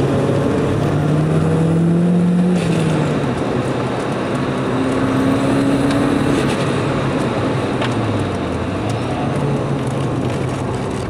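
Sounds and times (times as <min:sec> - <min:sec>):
car engine from inside cabin: 0:00.0 - 0:11.0
tyre and wind noise: 0:02.1 - 0:11.0.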